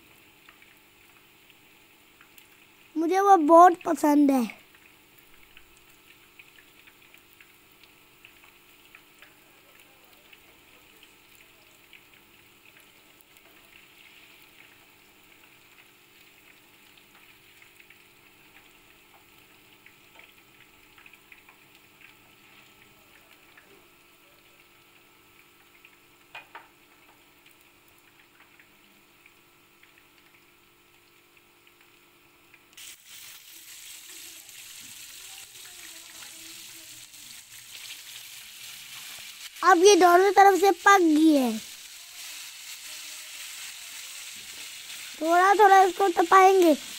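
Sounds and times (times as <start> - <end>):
fish sizzling in hot oil: 0.0 - 46.9.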